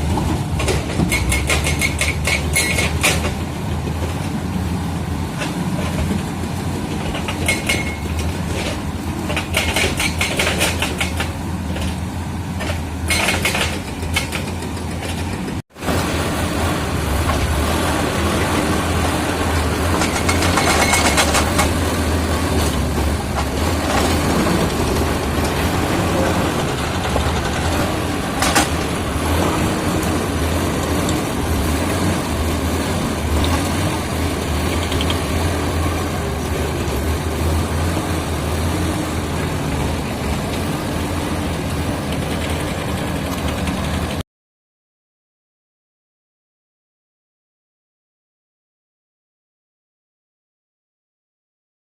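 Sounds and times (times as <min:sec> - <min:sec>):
bulldozer diesel engine running: 0:00.0 - 0:44.2.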